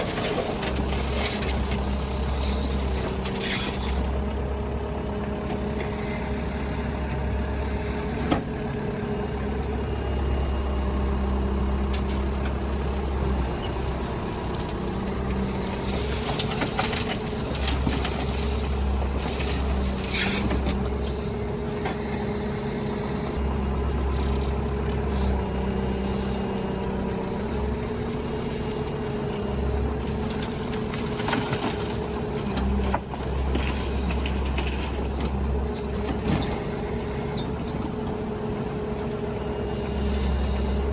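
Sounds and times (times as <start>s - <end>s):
heavy diesel engine rumbling: 0.0s - 40.9s.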